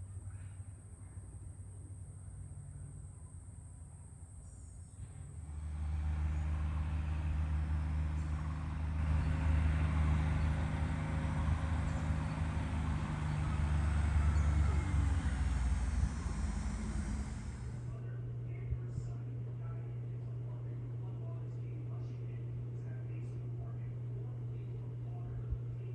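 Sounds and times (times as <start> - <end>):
vehicle engine running: 4.9 - 25.9.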